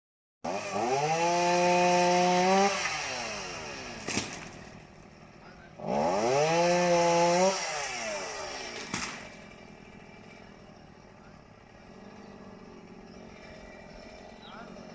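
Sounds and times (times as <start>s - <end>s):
chainsaw revving and idling: 0.4s - 14.9s.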